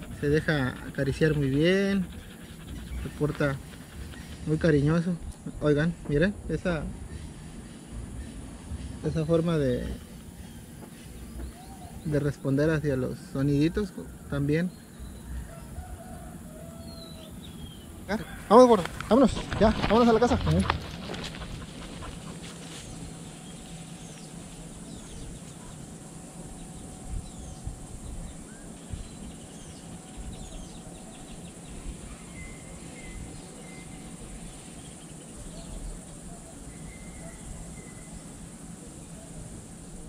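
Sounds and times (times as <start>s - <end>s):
low uneven rumble: 0.0s - 34.8s.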